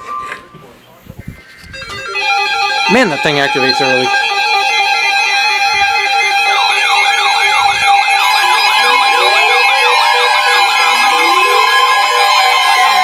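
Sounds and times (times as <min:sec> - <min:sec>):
warbling electronic siren: 0:00.0 - 0:13.0
alert tones and beeps: 0:01.8 - 0:13.0.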